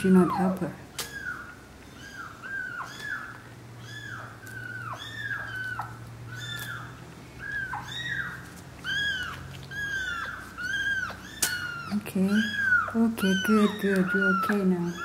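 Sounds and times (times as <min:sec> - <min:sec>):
kitten mewing: 0:00.0 - 0:15.0.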